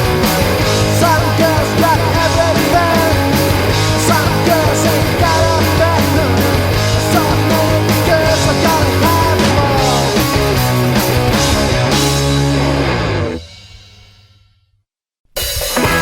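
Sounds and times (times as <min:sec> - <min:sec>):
punk rock song: 0:00.0 - 0:14.2, 0:15.4 - 0:16.0.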